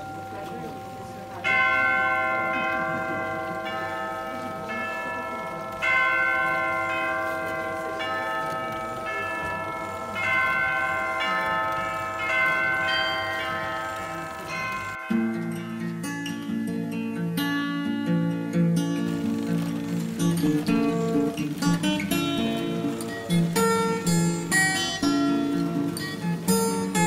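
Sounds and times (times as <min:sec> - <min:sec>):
bells ringing: 0:00.0 - 0:17.8, 0:18.9 - 0:27.0.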